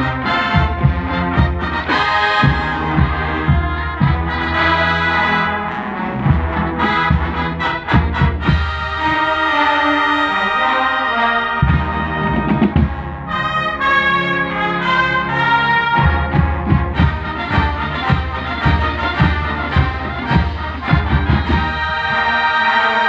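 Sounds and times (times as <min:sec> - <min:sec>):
steady drum beat: 0:00.0 - 0:05.5, 0:06.2 - 0:09.4, 0:11.6 - 0:13.9, 0:14.7 - 0:22.5
marching band brass: 0:00.0 - 0:23.0.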